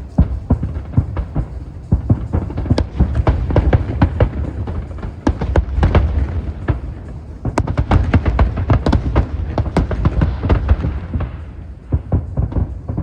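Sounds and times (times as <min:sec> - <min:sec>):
deep fireworks booms: 0:00.0 - 0:13.0
fireworks cracks and bangs: 0:00.0 - 0:13.0.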